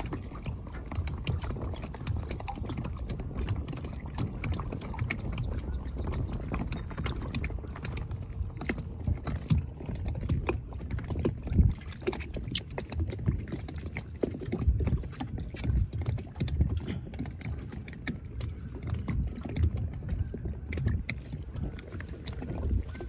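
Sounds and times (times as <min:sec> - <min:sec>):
waves slapping against dock posts: 0:00.0 - 0:23.0.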